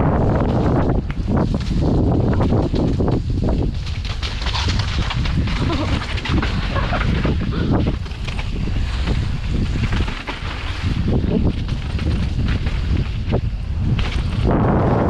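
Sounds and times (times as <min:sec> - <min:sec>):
wind buffeting microphone: 0:00.0 - 0:15.0
knocks and rattles: 0:00.4 - 0:14.6.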